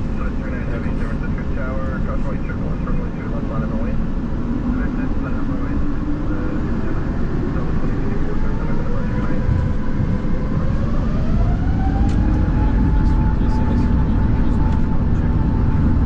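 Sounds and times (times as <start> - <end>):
jet engines rumbling: 0.0 - 16.0
rising jet engine whine: 0.0 - 16.0.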